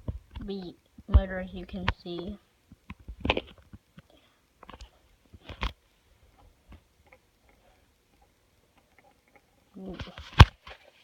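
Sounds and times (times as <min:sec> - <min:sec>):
faint irregular clicks: 0:00.0 - 0:10.8.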